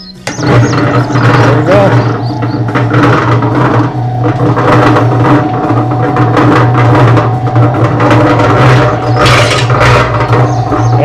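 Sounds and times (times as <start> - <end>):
cement mixer motor hum: 0.0 - 11.0
drum rattling knocks: 0.0 - 11.0.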